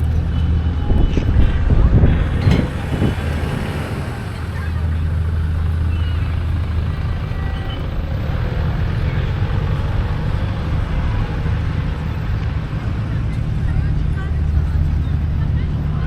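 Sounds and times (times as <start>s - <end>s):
large engine rumbling: 0.0s - 16.0s
street noise: 0.0s - 16.0s.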